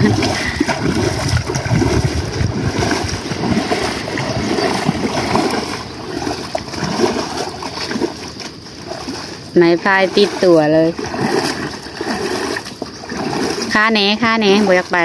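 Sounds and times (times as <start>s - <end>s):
water splashing from paddling: 0.0s - 15.0s.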